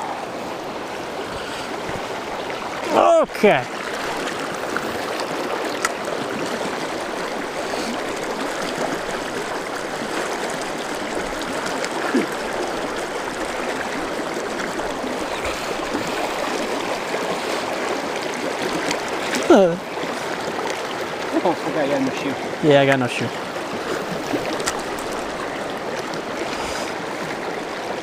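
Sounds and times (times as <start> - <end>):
stream flowing over rocks: 0.0 - 28.0.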